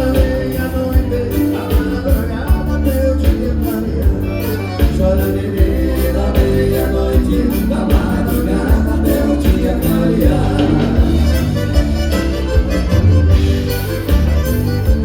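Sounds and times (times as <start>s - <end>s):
accordion: 0.0s - 15.0s
bass: 0.0s - 15.0s
steady drum beat: 0.0s - 15.0s.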